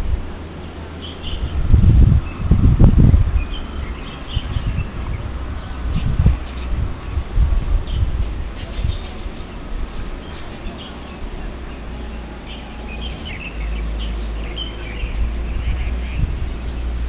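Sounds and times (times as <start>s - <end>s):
steady low rumble: 0.0s - 17.0s
birds chirping: 0.5s - 17.0s.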